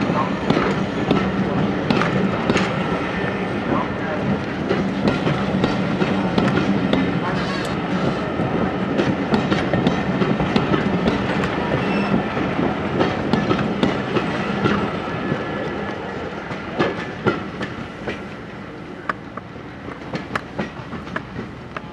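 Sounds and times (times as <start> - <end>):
train wheels clattering over rail joints: 0.0 - 3.0, 3.8 - 21.9.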